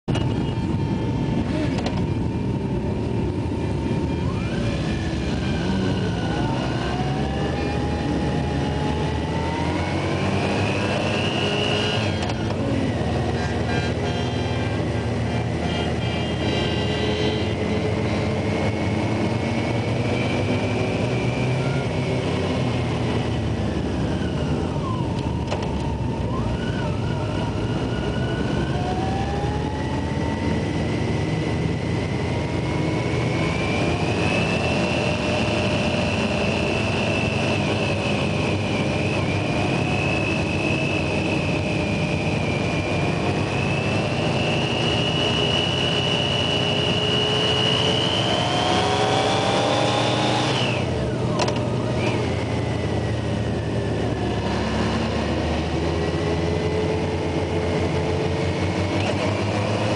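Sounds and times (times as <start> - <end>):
motorcycle engine at speed: 0.1 - 59.9.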